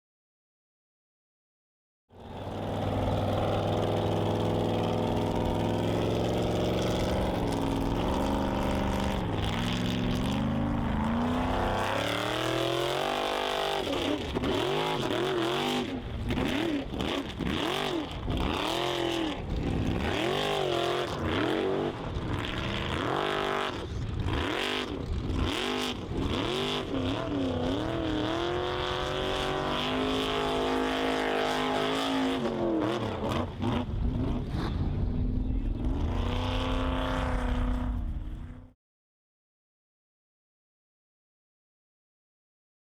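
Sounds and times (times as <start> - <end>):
off-road engine revving: 2.2 - 38.7.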